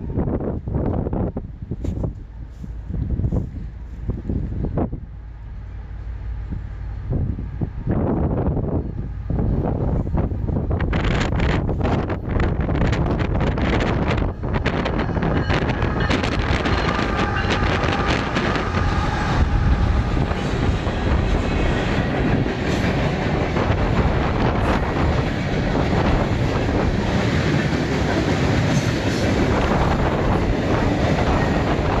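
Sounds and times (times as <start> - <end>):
diesel locomotives passing: 0.0 - 32.0
freight train rumble and wheel clatter: 0.0 - 32.0.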